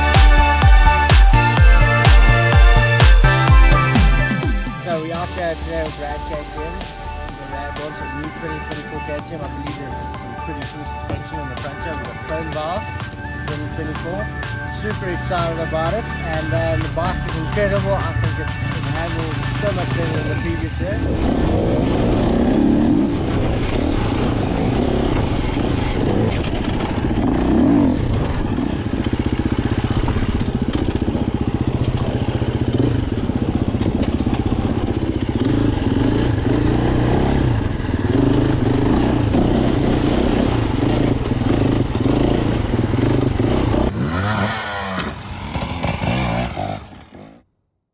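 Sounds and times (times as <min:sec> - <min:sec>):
dirt bike engines revving: 0:00.0 - 0:47.4
dirt bike passing by: 0:00.0 - 0:47.4.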